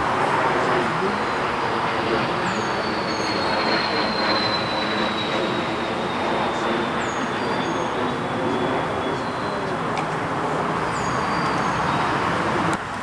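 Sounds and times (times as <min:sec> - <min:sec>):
high whine falling in pitch: 0:00.0 - 0:12.6
distant vehicle traffic: 0:00.0 - 0:13.0.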